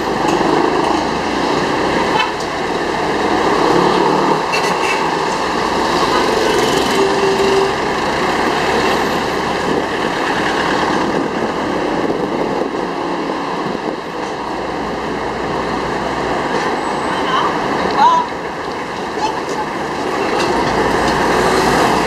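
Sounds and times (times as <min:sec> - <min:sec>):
road noise: 0:00.0 - 0:22.0
vehicle engine noise: 0:00.0 - 0:22.0.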